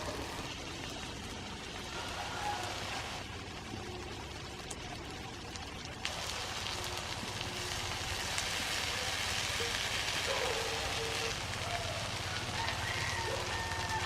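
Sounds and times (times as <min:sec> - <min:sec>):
food sizzling in a pan: 0:00.0 - 0:03.3, 0:06.0 - 0:14.0.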